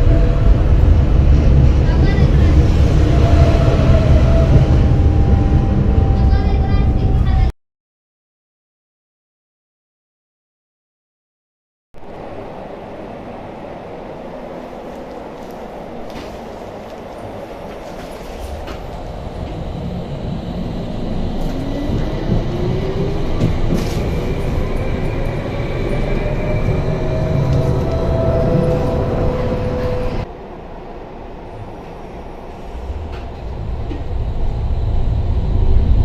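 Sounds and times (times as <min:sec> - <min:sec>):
tram rumbling on rails: 0:00.0 - 0:07.5, 0:12.0 - 0:36.0.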